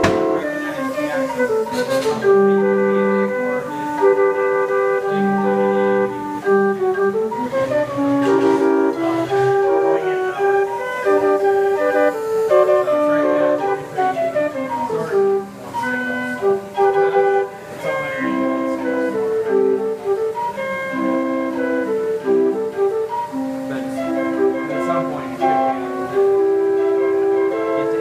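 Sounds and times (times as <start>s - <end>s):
pipe organ playing chords: 0.0s - 28.0s.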